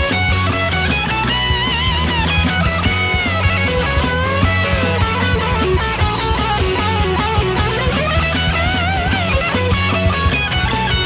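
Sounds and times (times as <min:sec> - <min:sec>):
electric lead guitar bending notes: 0:00.0 - 0:11.0
rock band playing: 0:00.0 - 0:11.0.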